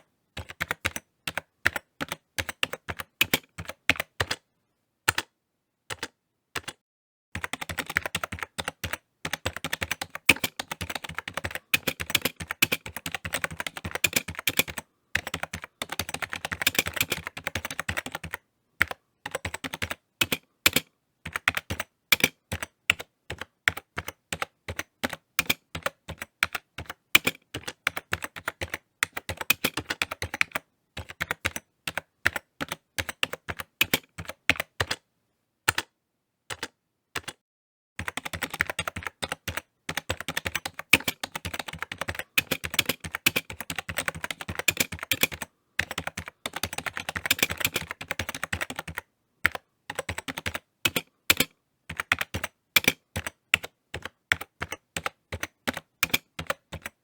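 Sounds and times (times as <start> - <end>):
typing on computer keyboard: 0.0 - 4.4, 5.1 - 5.3, 5.9 - 6.8, 7.4 - 35.0, 35.7 - 35.9, 36.5 - 37.4, 38.0 - 57.0.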